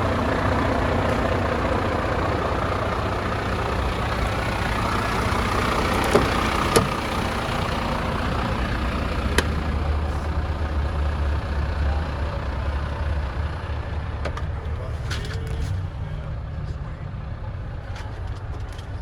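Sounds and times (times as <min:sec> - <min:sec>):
truck diesel engine idling: 0:00.0 - 0:19.0.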